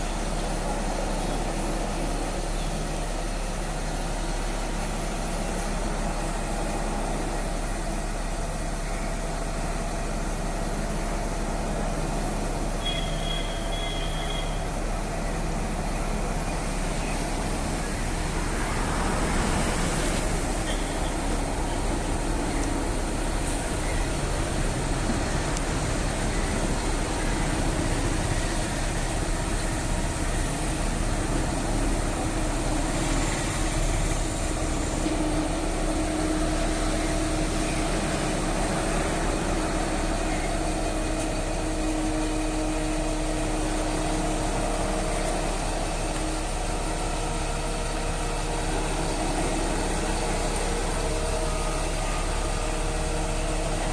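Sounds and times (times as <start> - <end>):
crane engine running: 0.0 - 53.9.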